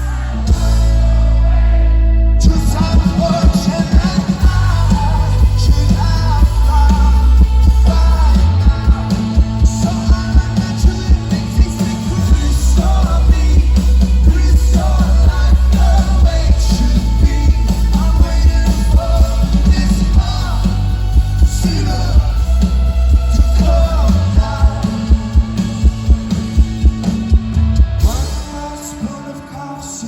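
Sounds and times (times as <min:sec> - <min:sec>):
live rock band playing: 0:00.0 - 0:01.8, 0:02.4 - 0:30.0.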